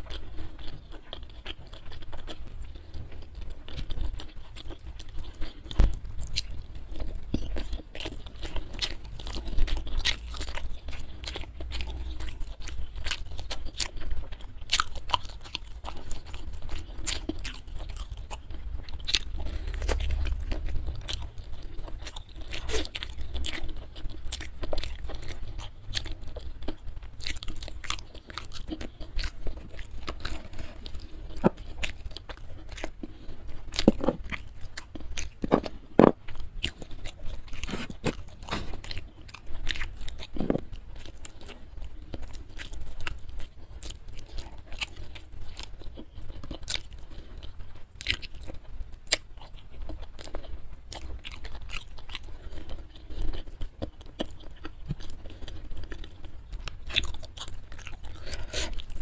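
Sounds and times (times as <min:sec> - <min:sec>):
crunchy chewing and biting: 0:00.0 - 0:59.0.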